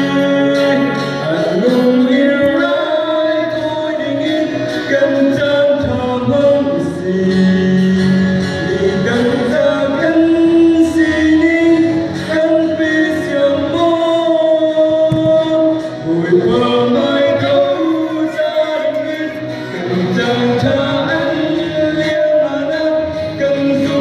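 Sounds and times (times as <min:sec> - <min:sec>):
man singing through microphone: 0:00.0 - 0:24.0
strummed acoustic guitar: 0:00.0 - 0:24.0.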